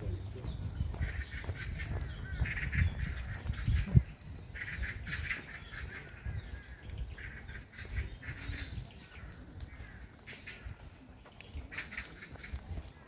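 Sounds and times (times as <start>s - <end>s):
birds chirping and squawking: 0.0s - 13.0s
footsteps on a path: 0.0s - 13.0s.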